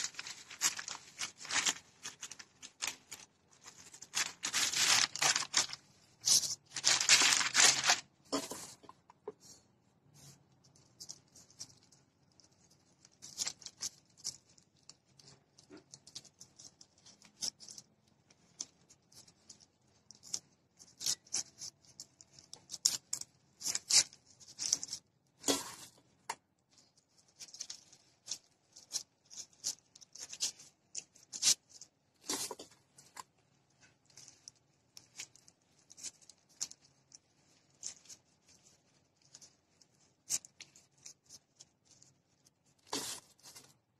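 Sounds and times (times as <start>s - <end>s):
plastic glove crinkling: 0.0s - 9.4s, 10.1s - 43.9s.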